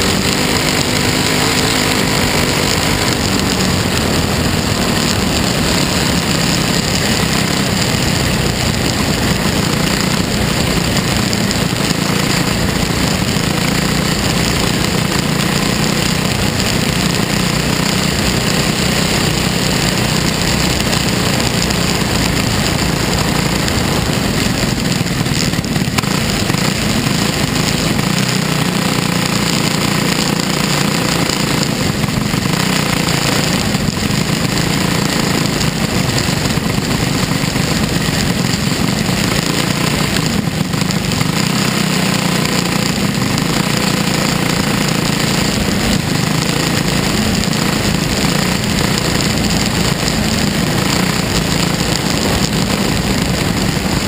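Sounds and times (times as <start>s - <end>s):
race car engine drone: 0.0s - 54.0s.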